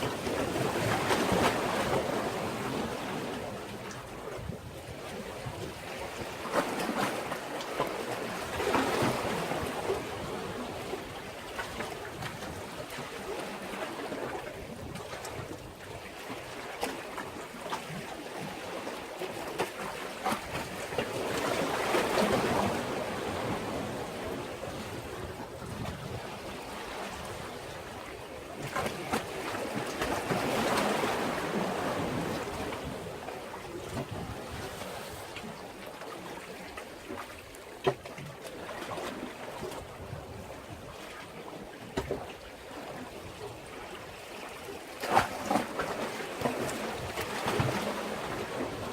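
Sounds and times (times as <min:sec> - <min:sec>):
waves splashing against breakwater: 0:00.0 - 0:48.9.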